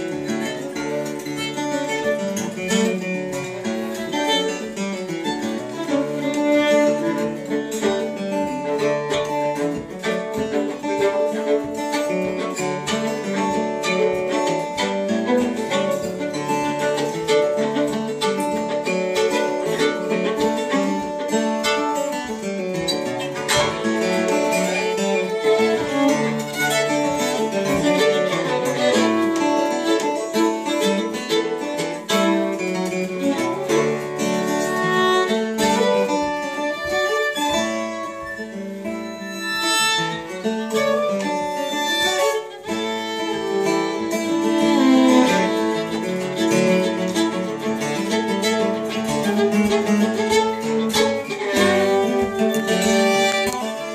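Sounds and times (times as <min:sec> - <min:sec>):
fiddle bowing a folk melody: 0:00.0 - 0:53.9
picked acoustic guitar: 0:00.0 - 0:53.9.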